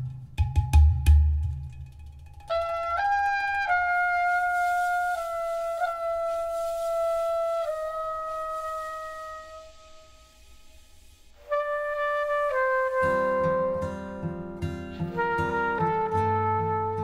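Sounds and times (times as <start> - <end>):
solo wind instrument long notes: 2.5 - 17.0.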